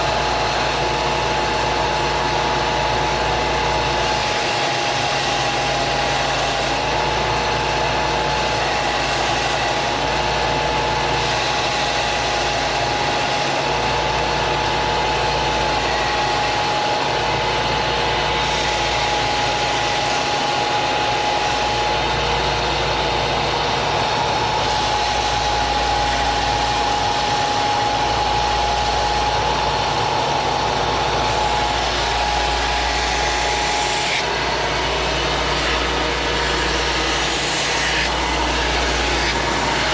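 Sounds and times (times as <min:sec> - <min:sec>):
woodworking machine whining: 0:00.0 - 0:39.9.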